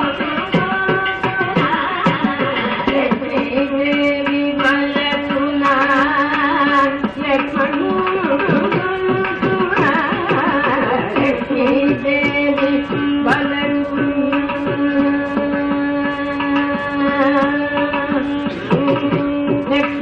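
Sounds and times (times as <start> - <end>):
mridangam drum strokes: 0.0 - 20.0
tanpura drone: 0.0 - 20.0.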